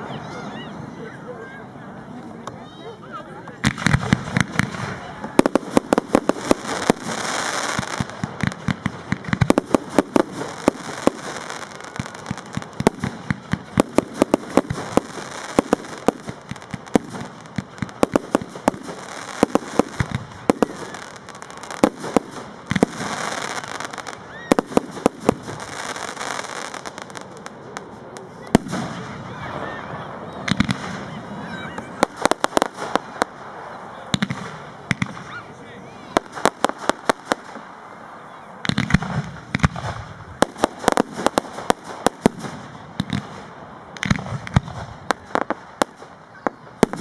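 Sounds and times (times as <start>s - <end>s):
fireworks bangs and crackles: 3.3s - 47.0s.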